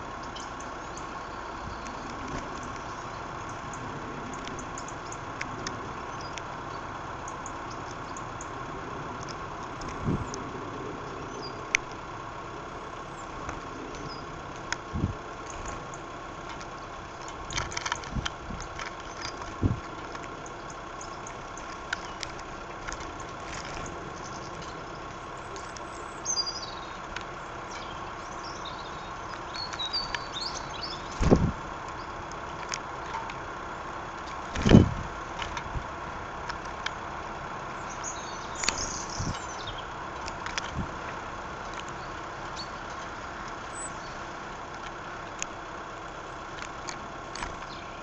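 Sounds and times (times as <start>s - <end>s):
small birds chirping: 0.0s - 48.0s
steady hum: 0.0s - 48.0s.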